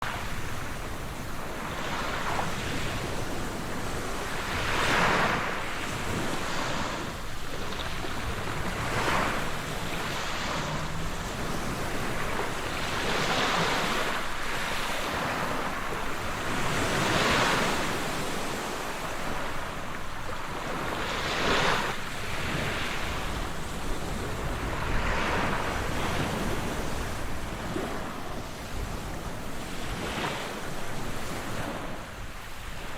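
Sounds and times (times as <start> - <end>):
sea waves breaking on shore: 0.0 - 32.9.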